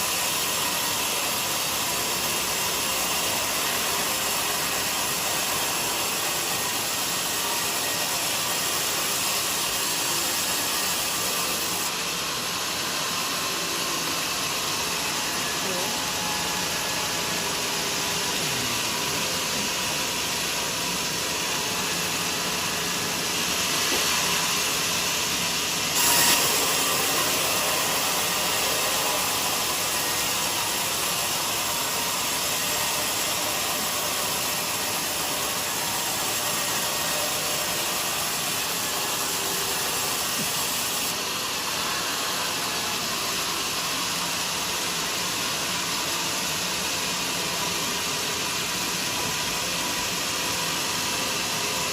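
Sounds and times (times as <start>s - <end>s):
band sawmill sawing log: 0.0s - 51.9s.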